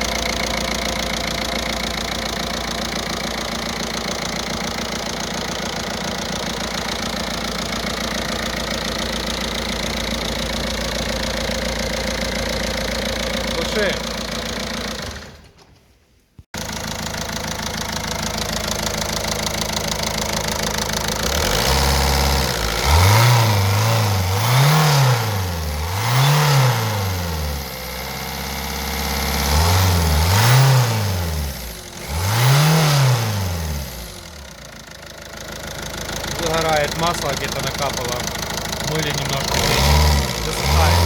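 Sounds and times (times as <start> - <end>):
diesel engine idling and revving: 0.0 - 15.6, 16.6 - 41.0.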